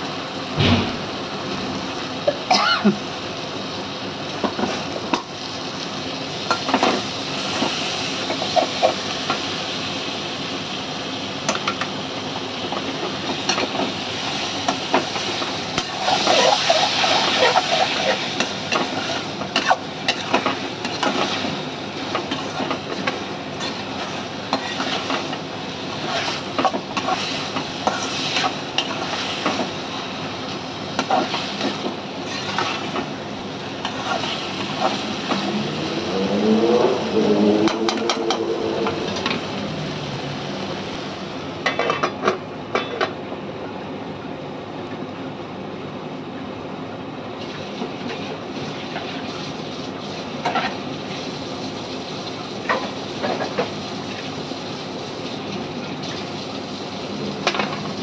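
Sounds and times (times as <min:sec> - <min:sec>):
tomatoes sizzling in a pan: 0:00.0 - 0:37.4, 0:47.4 - 0:58.0.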